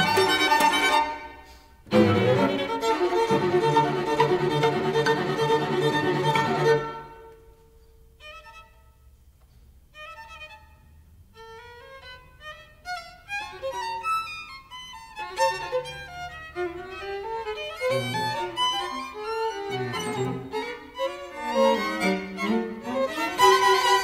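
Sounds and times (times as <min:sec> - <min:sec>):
string quartet playing: 0:00.0 - 0:07.5, 0:11.4 - 0:24.0.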